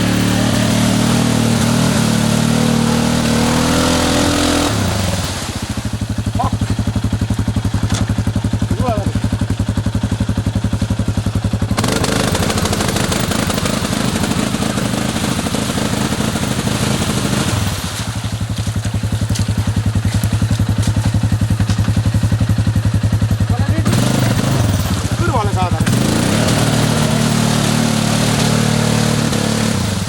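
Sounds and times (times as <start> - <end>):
atv engine puttering: 0.0 - 30.0.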